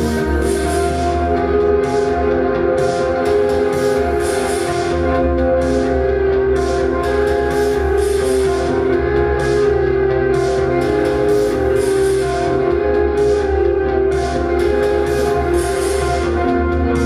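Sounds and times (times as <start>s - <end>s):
steady drum beat: 0.0s - 17.0s
sustained guitar chords: 0.0s - 17.0s.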